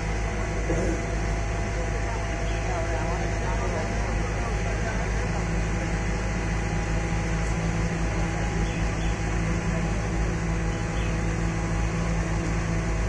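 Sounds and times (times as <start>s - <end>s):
construction machinery engine hum: 0.0s - 13.0s.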